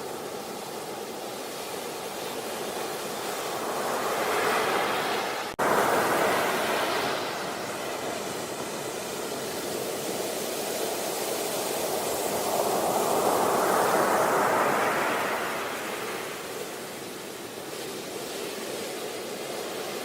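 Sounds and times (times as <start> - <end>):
sea waves on a beach: 0.0 - 20.0.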